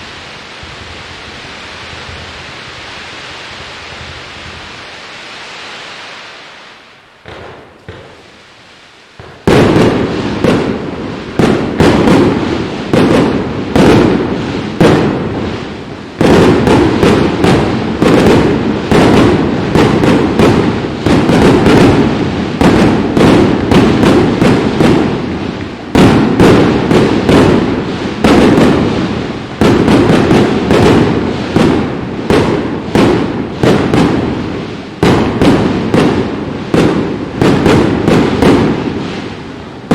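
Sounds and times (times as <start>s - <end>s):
fireworks bangs and crackles: 0.0s - 39.9s
fireworks hissing: 0.0s - 39.9s.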